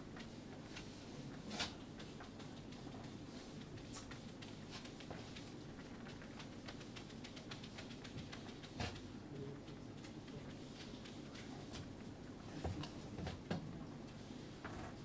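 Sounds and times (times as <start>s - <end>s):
quiet room hum: 0.0s - 15.0s.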